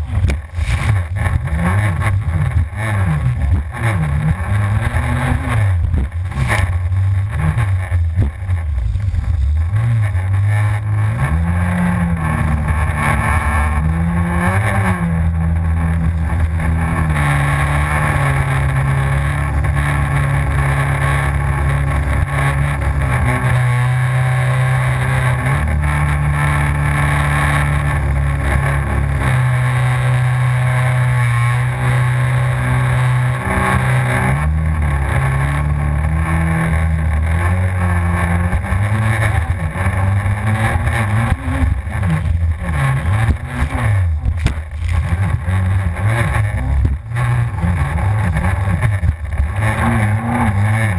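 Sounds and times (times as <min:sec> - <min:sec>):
personal watercraft engine running hard: 0:00.0 - 0:50.9.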